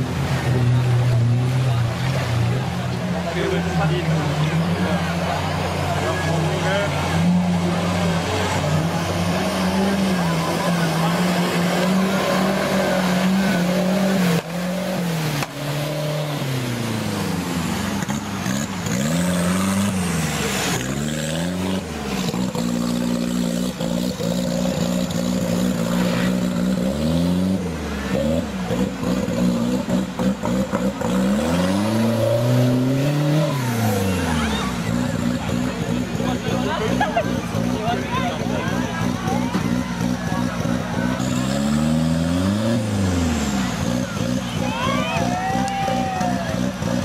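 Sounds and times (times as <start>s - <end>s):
off-road engines revving: 0.0s - 47.0s
river water splashing: 0.0s - 47.0s.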